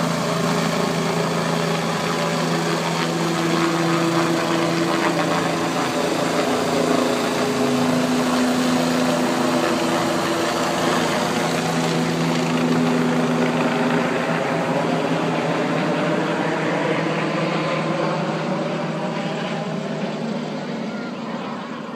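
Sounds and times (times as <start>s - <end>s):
helicopter flying overhead: 0.0s - 21.9s.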